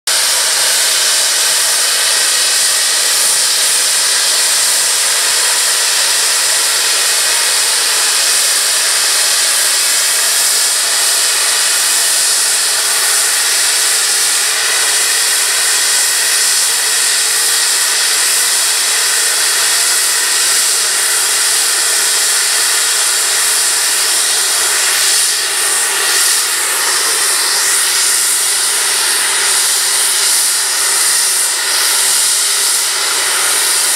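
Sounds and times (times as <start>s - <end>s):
steam locomotive blowing off steam: 0.1s - 33.9s.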